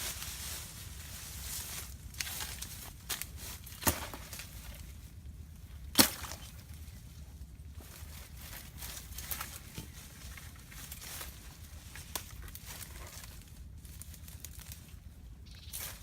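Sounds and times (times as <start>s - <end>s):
rustling handling noise: 0.0s - 5.2s, 6.6s - 14.9s.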